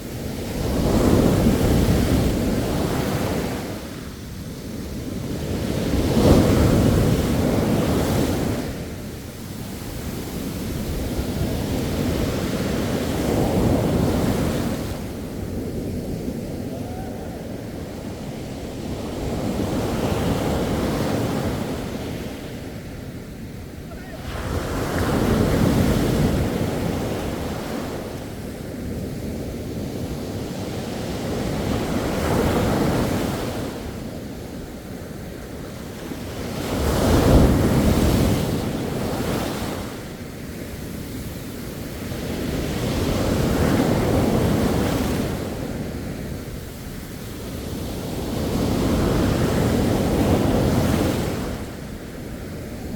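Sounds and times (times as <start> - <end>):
sea waves breaking on a beach: 0.0 - 52.9.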